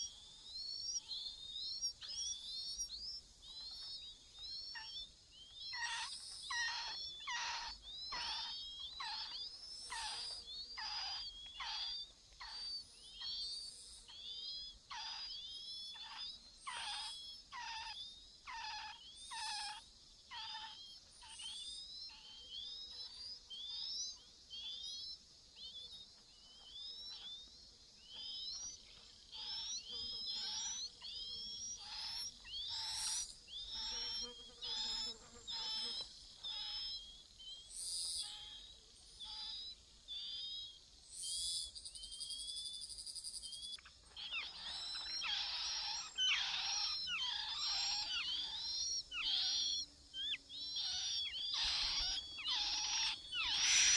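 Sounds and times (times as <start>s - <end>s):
nestlings begging calls: 0.0s - 42.5s, 43.4s - 53.9s.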